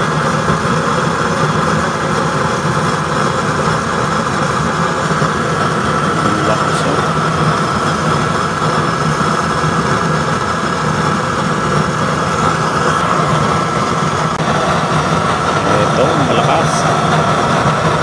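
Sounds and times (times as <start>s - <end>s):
blower whining: 0.0s - 18.0s
oil flame rushing: 0.0s - 18.0s.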